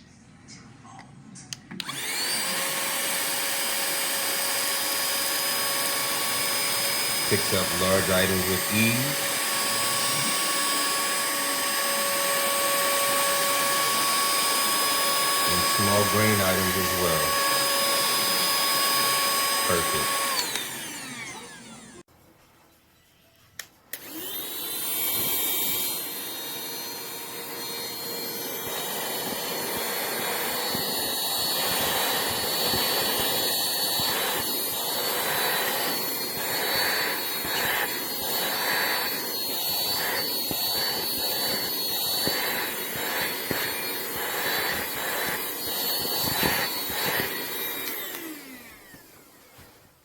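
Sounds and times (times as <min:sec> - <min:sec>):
handheld vacuum motor whining: 0:01.7 - 0:22.1, 0:23.9 - 0:50.0.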